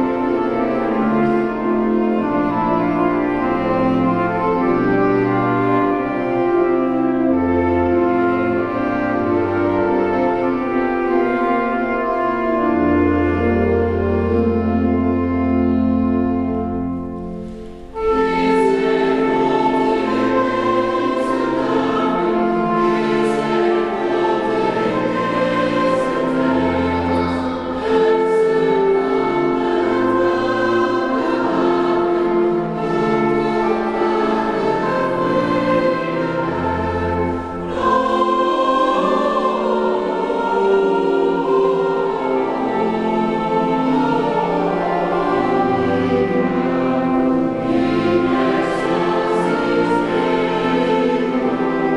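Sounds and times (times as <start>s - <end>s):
choir singing: 0.0s - 51.9s
instrumental accompaniment: 0.0s - 51.9s.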